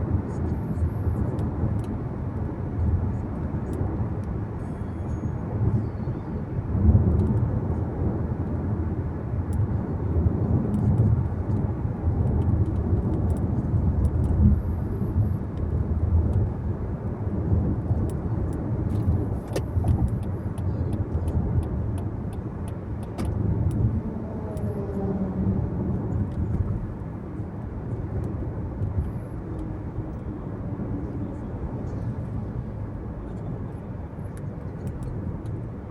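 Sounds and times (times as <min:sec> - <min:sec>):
car road and engine noise: 0:00.0 - 0:35.9.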